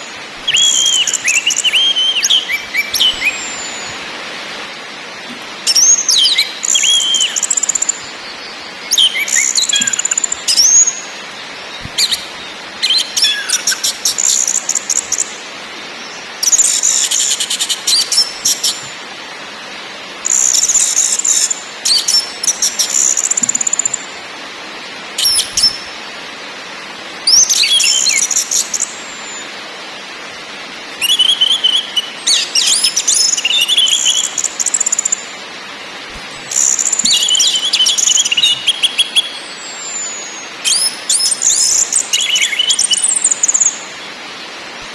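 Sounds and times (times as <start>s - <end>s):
steady hiss: 0.0s - 44.9s.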